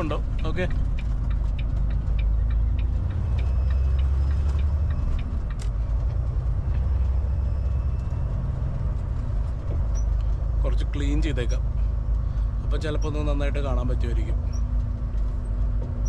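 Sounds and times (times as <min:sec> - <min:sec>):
truck engine low drone: 0:00.0 - 0:16.0.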